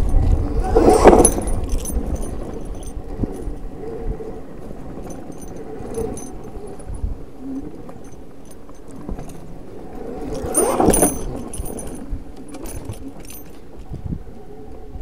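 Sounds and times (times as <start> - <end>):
electric motorcycle rattling: 0.0 - 14.8.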